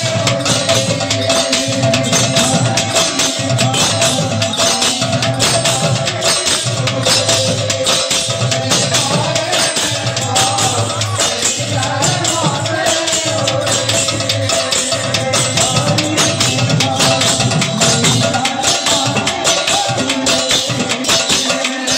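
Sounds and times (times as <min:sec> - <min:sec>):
barrel drum beating: 0:00.0 - 0:21.9
jingling metal percussion: 0:00.0 - 0:21.9.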